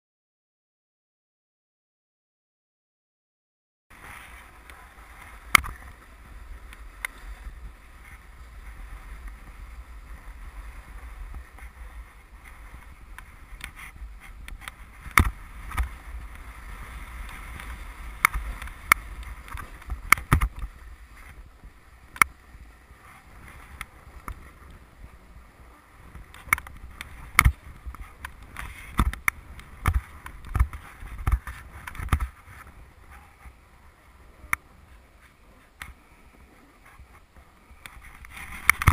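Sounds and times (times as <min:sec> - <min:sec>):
snowboard scraping over snow: 0:03.9 - 0:38.9
wind rumble on microphone: 0:03.9 - 0:38.9.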